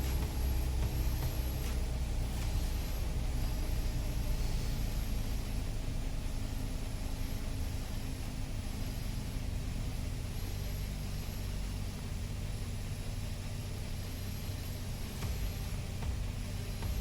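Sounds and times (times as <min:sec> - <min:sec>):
aircraft engine and propeller droning: 0:00.0 - 0:17.0
rushing air hiss: 0:00.0 - 0:17.0.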